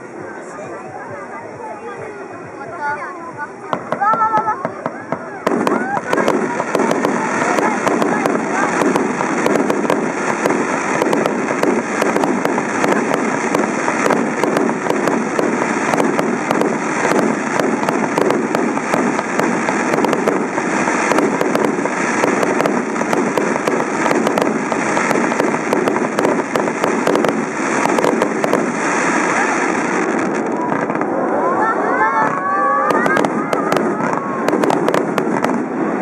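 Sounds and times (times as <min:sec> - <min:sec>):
fireworks crackling: 0:00.0 - 0:36.0
steady rush of noise: 0:00.0 - 0:36.0.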